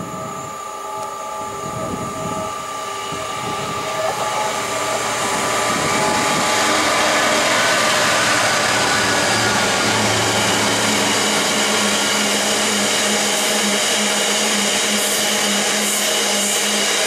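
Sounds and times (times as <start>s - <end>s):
diesel locomotive engine running: 0.0s - 17.0s
freight train approaching: 0.0s - 17.0s.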